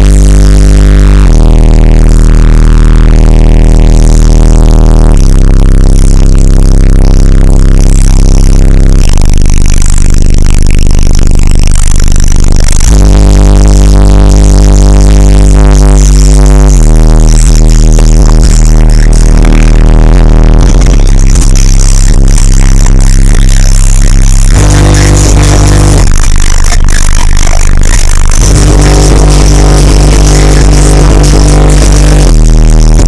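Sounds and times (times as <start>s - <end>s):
bass-heavy electronic music: 0.0s - 33.0s.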